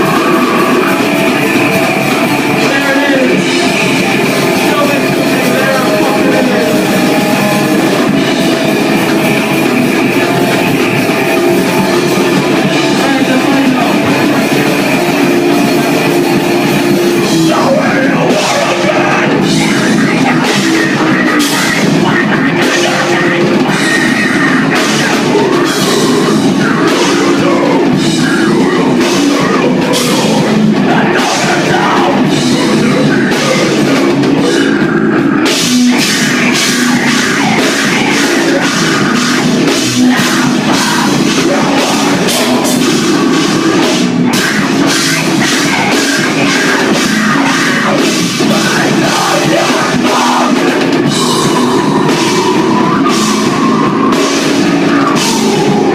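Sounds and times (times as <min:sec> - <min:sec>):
distorted guitars: 0:00.0 - 0:55.9
drum kit pounding: 0:00.0 - 0:55.9.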